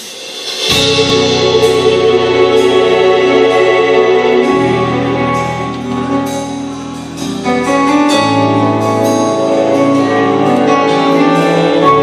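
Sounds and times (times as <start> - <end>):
symphony orchestra playing: 0.0 - 12.0.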